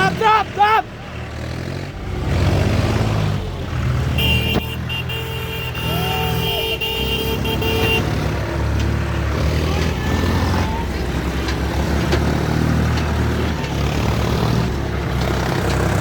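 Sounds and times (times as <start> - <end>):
tractor engine running under load: 0.0 - 16.0.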